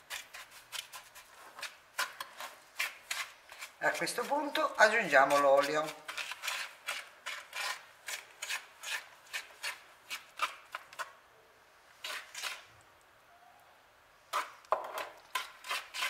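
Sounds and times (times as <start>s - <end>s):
fork beating eggs: 0.0s - 11.2s, 12.0s - 12.7s, 14.3s - 16.0s.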